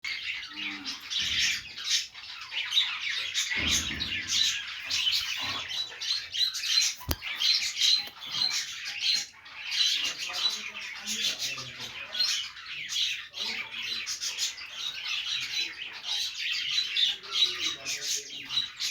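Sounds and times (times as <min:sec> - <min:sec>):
budgerigars chattering and chirping: 0:00.1 - 0:18.9.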